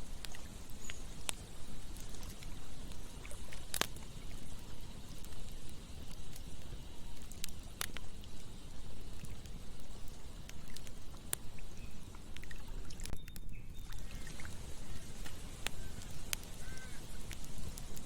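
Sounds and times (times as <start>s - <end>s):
flowing river water: 0.0s - 13.2s, 13.8s - 18.0s
campfire crackling and popping: 0.0s - 18.0s.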